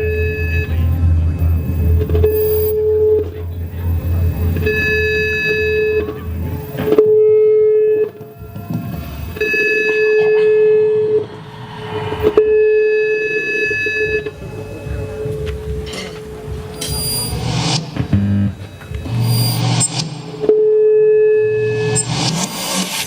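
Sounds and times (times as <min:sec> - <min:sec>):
low rumbling drone: 0:00.0 - 0:23.0
steady tone with high overtones: 0:00.0 - 0:23.0.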